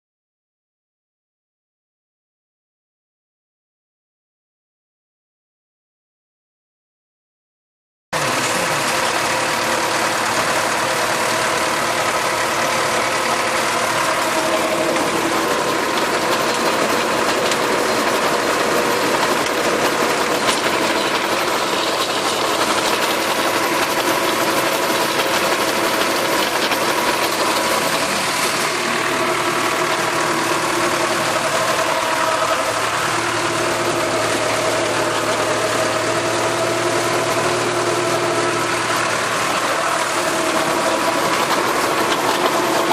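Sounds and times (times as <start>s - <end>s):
rotary tiller mechanical noise: 8.2s - 42.9s
tractor engine running: 8.2s - 42.9s.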